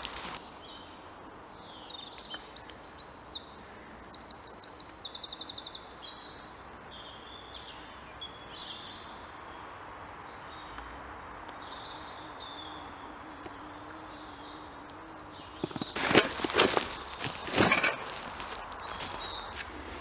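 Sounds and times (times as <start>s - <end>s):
outdoor background hiss: 0.0s - 20.0s
songbirds singing: 0.0s - 20.0s.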